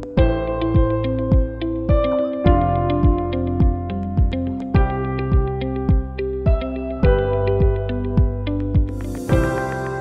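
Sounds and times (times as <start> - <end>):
deep kick drum beat: 0.2 - 9.8.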